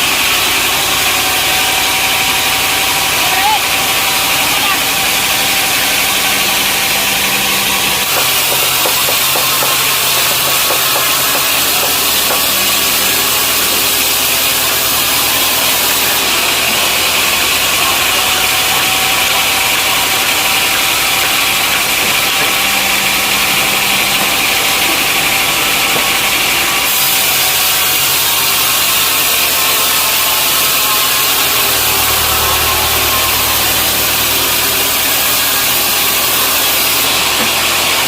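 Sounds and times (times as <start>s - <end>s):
saw cutting through log: 0.0s - 38.0s
saw engine hum: 0.0s - 38.0s.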